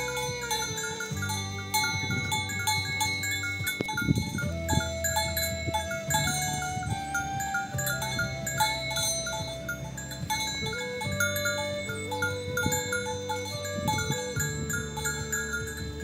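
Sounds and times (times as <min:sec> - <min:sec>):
cattle calling: 0:00.0 - 0:16.0
music with chime-like mallet notes: 0:00.0 - 0:16.0.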